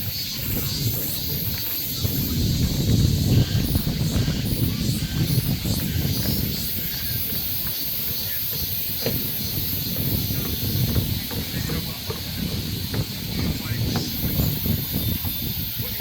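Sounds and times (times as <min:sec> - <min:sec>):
forest hiss: 0:00.0 - 0:16.0
wind gusting on microphone: 0:00.0 - 0:16.0.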